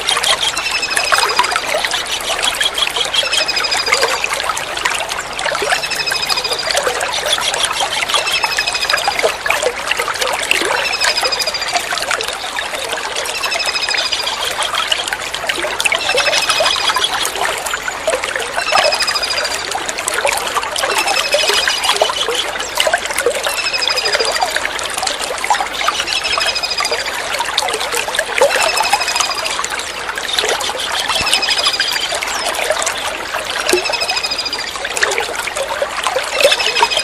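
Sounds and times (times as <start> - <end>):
trickling water: 0.0 - 37.0.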